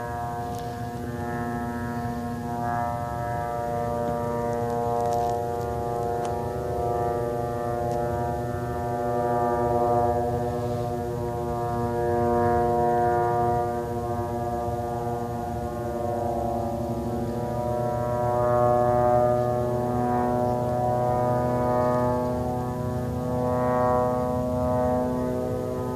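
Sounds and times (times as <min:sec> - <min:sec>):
drone propeller engine droning: 0:00.0 - 0:25.9.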